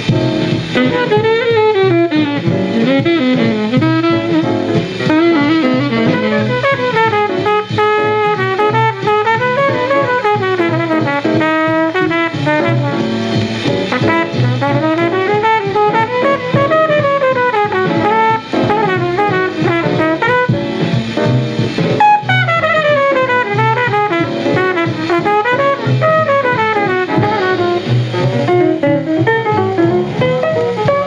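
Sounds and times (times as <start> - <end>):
bebop jazz on a record: 0.0 - 31.0
horn playing quick runs: 0.0 - 31.0.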